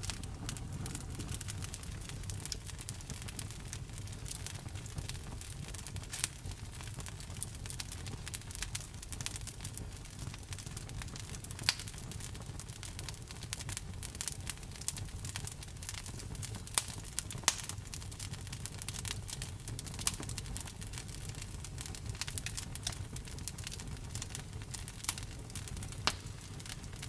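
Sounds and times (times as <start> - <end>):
fire crackling: 0.0 - 27.0
sharp pops of burning wood: 0.0 - 27.0
wood fire rumbling: 0.0 - 27.0.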